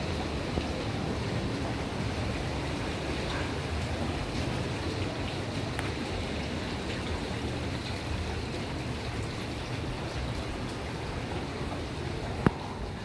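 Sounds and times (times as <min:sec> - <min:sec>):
water rushing: 0:00.0 - 0:13.0
wind: 0:00.0 - 0:13.0.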